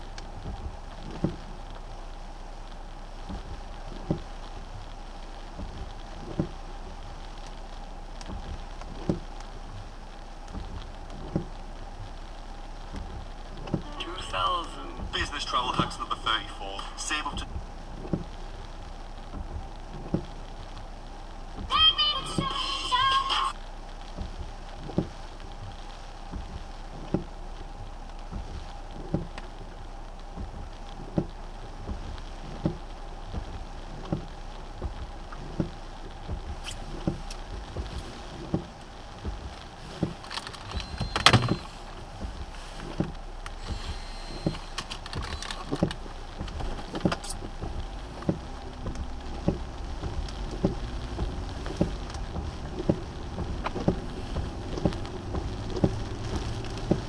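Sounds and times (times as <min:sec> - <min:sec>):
car cabin hum: 0:00.0 - 0:57.0
rain patter: 0:00.0 - 0:57.0
soft ticking: 0:00.0 - 0:57.0.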